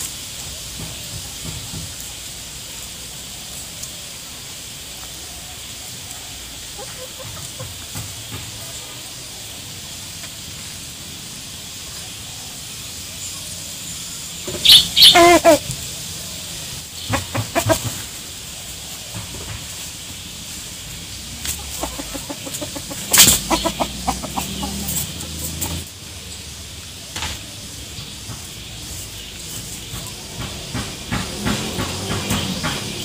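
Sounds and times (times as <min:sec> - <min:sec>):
chickens clucking: 0:00.0 - 0:33.0
dry leaves rustling and crackling: 0:00.0 - 0:33.0.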